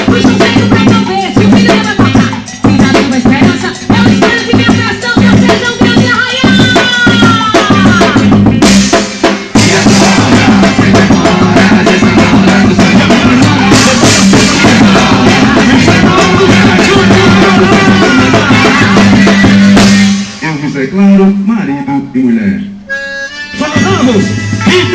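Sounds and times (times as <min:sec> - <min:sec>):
drum strokes: 0:00.0 - 0:20.8, 0:23.5 - 0:24.9
loud band music over pa: 0:00.0 - 0:21.5, 0:22.8 - 0:24.9.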